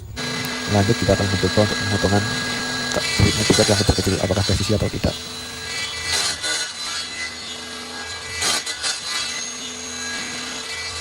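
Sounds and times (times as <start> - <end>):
table saw motor hum: 0.0 - 11.0
saw blade cutting plywood: 0.2 - 11.0.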